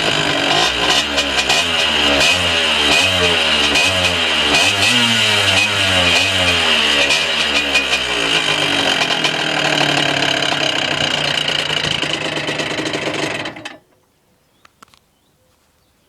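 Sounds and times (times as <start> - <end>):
two-stroke motorcycle engine running: 0.0 - 13.8.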